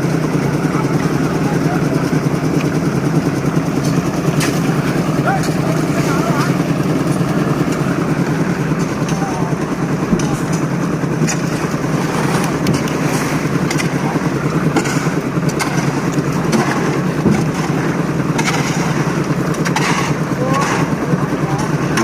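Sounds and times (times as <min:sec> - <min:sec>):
engine running loudly: 0:00.0 - 0:22.0.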